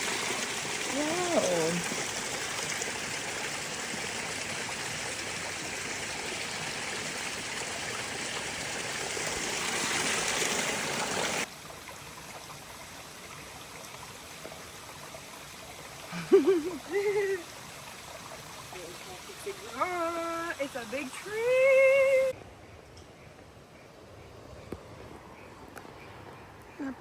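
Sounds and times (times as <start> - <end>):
creek water rushing: 0.0 - 22.4.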